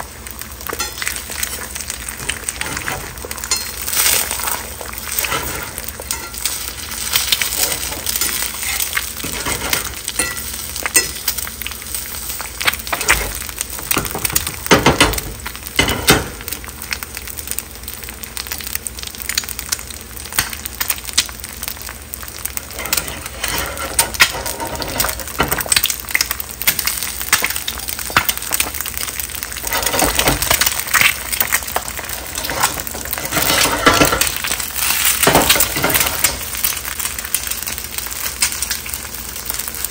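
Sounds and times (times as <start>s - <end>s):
eggs sizzling in oil: 0.0s - 39.9s.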